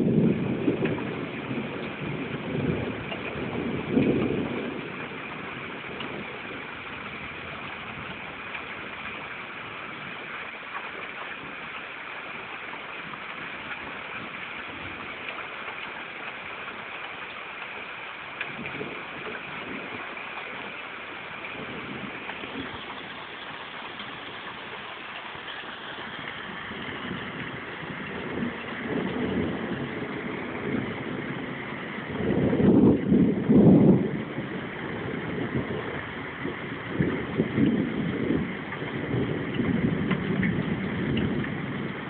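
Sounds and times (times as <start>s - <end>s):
low thunder rumble: 0.0s - 10.4s, 18.4s - 42.0s
steady rain falling: 0.0s - 42.0s.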